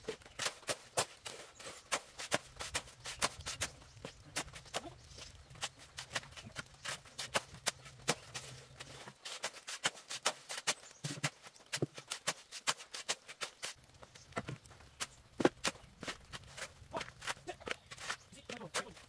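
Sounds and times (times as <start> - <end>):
shovel crunching sand and cement: 0.0 - 19.0.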